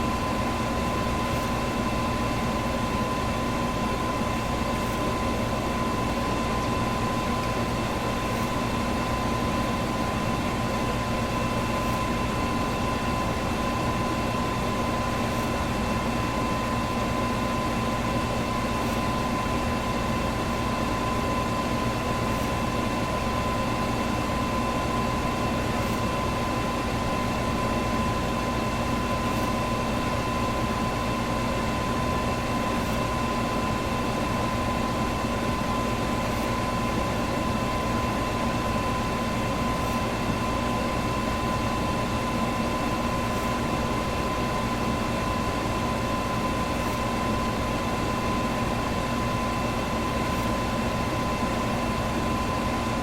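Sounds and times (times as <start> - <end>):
electric fan running: 0.0 - 53.0.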